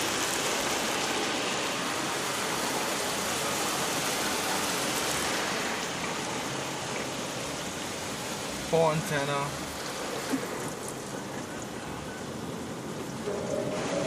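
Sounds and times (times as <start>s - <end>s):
car wash water spraying: 0.0s - 14.0s.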